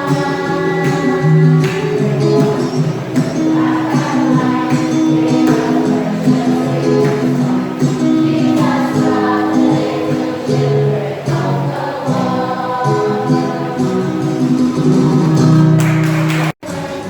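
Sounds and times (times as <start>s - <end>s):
church choir singing a hymn: 0.0s - 16.0s
instrumental accompaniment: 0.0s - 16.9s.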